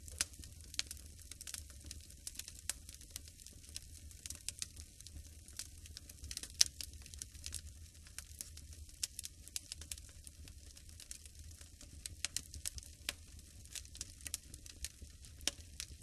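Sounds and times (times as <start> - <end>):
wood fire crackling in fireplace: 0.0 - 16.0.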